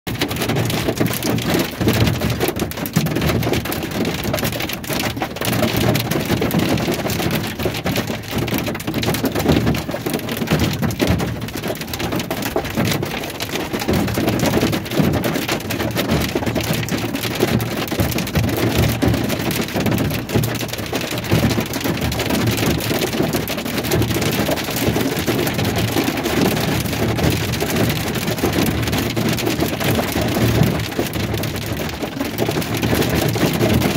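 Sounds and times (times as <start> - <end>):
heavy rain on vehicle roof: 0.1 - 33.9.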